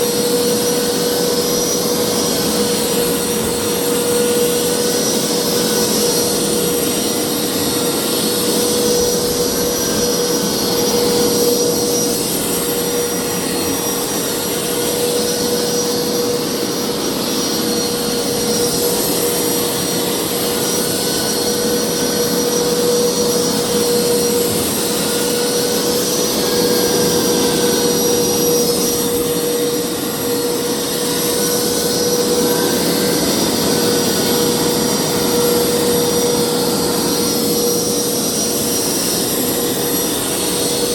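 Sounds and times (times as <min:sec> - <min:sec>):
carpet cleaner running: 0:00.0 - 0:40.9.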